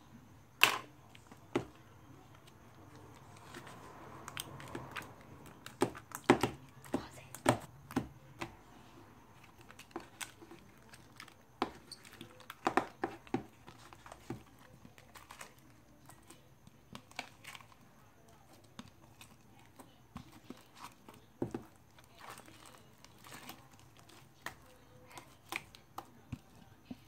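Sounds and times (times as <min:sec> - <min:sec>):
plastic bowl clicks and crackles: 0:00.6 - 0:08.5, 0:09.4 - 0:27.0
hands kneading sticky slime: 0:01.1 - 0:27.0.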